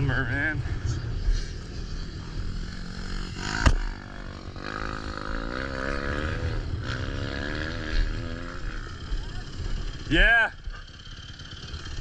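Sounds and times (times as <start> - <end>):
dirt bike engines: 0.0 - 12.0.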